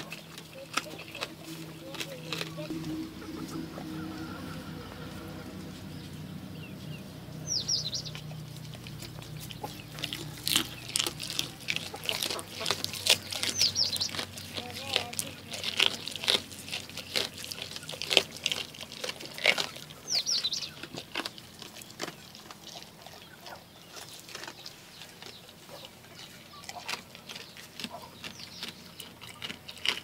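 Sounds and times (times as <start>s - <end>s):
goat crunching food: 0.0s - 6.4s, 7.1s - 30.0s
bird chirping: 0.0s - 15.8s, 16.8s - 29.9s.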